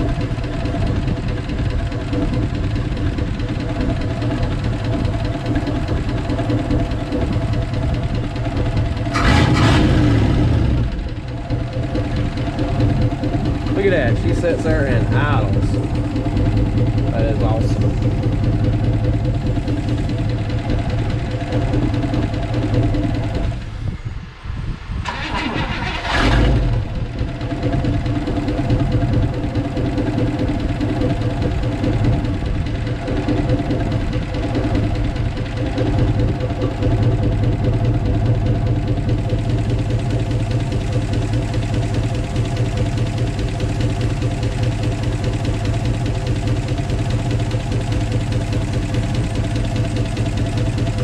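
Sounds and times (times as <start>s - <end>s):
car engine idling: 0.0s - 23.9s, 25.0s - 51.0s.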